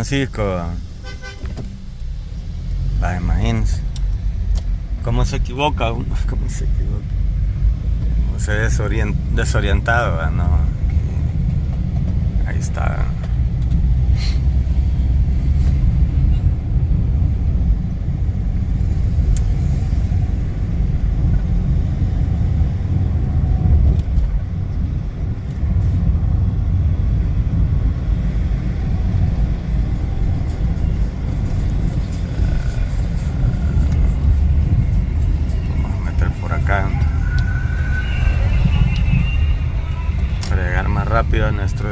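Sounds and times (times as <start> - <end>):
car rumbling through city: 0.0 - 41.9.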